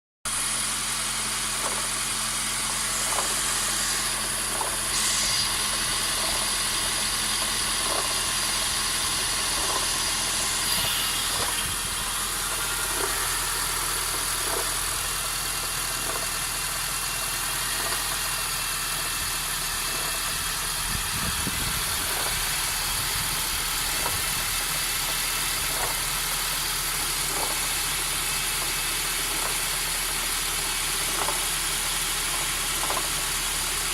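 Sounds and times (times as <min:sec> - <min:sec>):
car engine idling: 0:00.3 - 0:33.9
faint engine ticking: 0:01.4 - 0:33.9.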